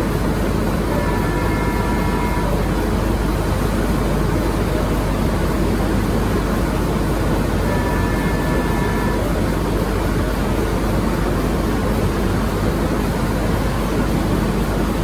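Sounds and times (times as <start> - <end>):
printing press running: 0.0 - 15.0.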